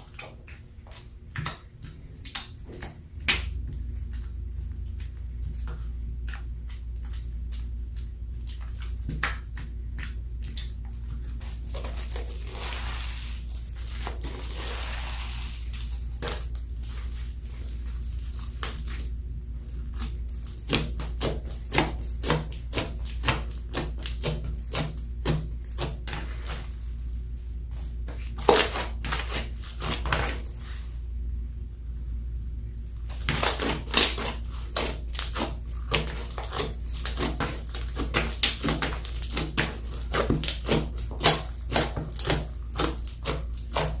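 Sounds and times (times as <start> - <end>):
slime squelching and popping: 0.0 - 26.9, 27.6 - 30.9, 32.9 - 44.0
steady low hum: 0.0 - 44.0.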